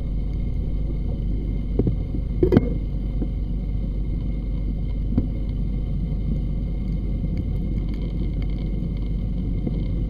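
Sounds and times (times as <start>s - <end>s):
dredge engine rumble underwater: 0.0s - 10.0s.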